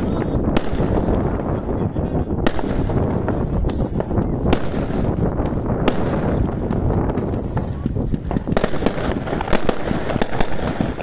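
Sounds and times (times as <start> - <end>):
continuous noisy background: 0.0 - 11.0
fireworks bangs: 0.0 - 11.0.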